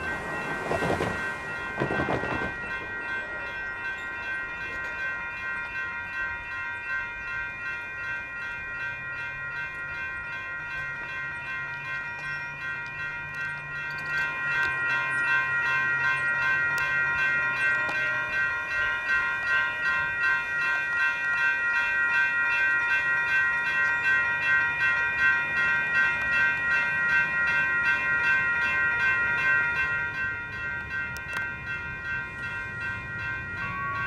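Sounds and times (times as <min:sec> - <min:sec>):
light rail train humming: 0:00.0 - 0:34.0
railroad crossing bells ringing: 0:00.0 - 0:34.0.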